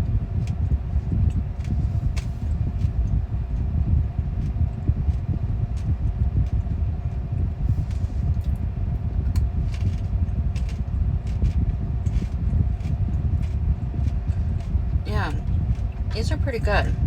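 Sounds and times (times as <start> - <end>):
steady low rumble: 0.0 - 17.0
crunching and chewing crab shell: 0.3 - 3.5, 4.2 - 16.1.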